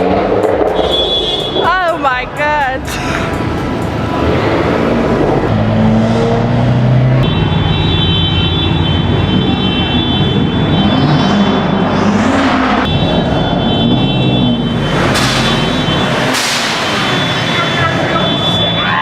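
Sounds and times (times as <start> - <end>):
car engine revving: 0.0 - 19.0
car engines running: 0.0 - 19.0.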